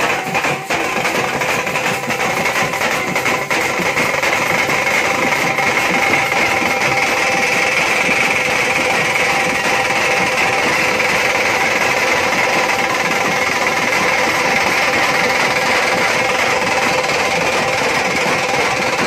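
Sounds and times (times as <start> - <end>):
faint steady ringing: 0.0 - 19.0
fast continuous drumming: 0.0 - 19.0.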